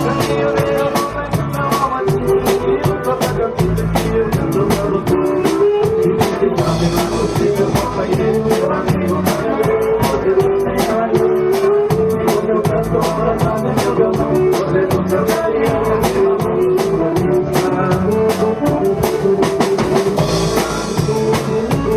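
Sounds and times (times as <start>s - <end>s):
band melody: 0.0s - 21.9s
bass: 0.0s - 21.9s
drum kit: 0.0s - 21.9s.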